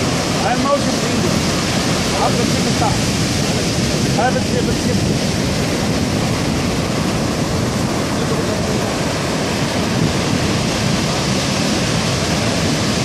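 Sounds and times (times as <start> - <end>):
heavy surf breaking on beach: 0.0 - 13.0.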